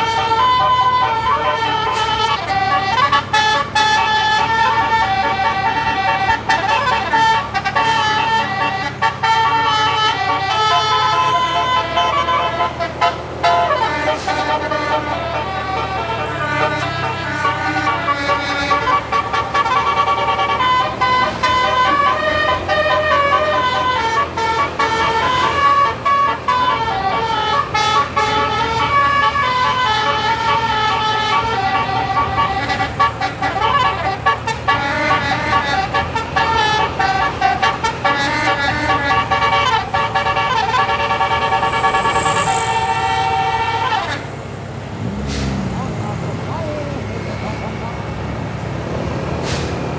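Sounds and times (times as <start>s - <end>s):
multi-tone bus air horn tune: 0.0s - 49.9s.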